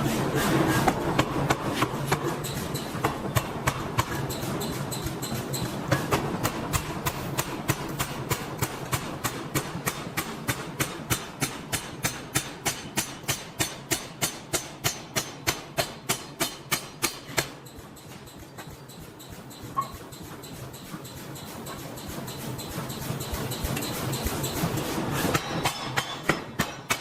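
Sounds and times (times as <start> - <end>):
factory background noise: 0.0 - 27.0
hammer striking steel: 0.9 - 27.0.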